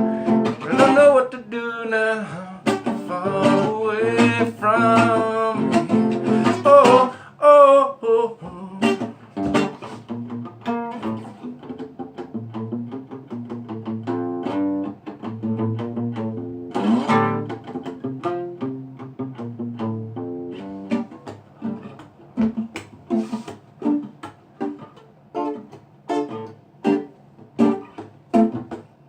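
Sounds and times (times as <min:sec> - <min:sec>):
plucked acoustic guitar: 0:00.0 - 0:29.0.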